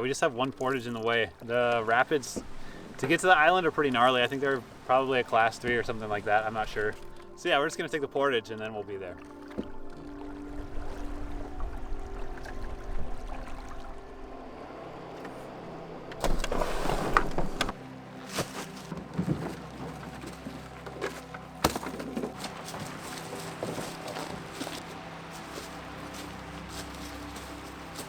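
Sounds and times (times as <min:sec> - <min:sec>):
canoe scraping rush: 0:00.0 - 0:28.0.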